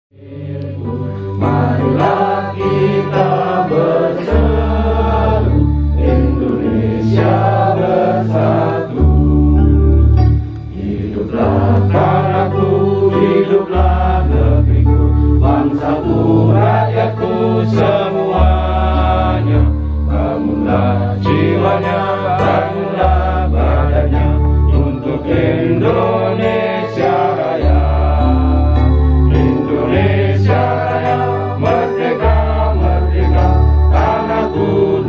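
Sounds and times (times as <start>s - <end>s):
low held bass notes: 3.8s - 35.0s.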